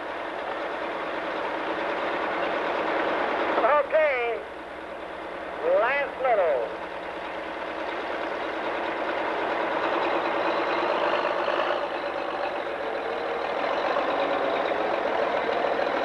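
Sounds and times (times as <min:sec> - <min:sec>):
tractor diesel engine at full power: 0:00.0 - 0:16.0.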